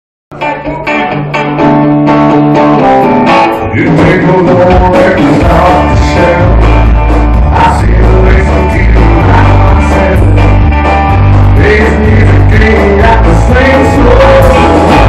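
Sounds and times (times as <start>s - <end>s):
bass line: 0.3s - 15.0s
drums: 0.3s - 15.0s
electric guitars: 0.3s - 15.0s.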